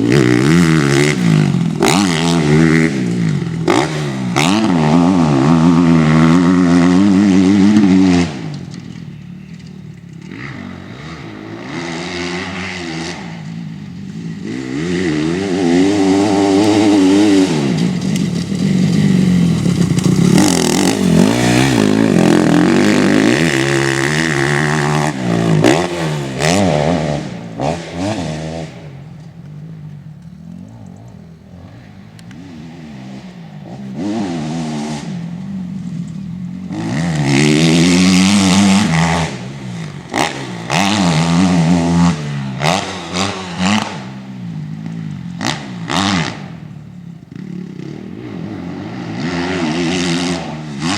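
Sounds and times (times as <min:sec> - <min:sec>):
motorcycle engines revving: 0:00.0 - 0:50.9.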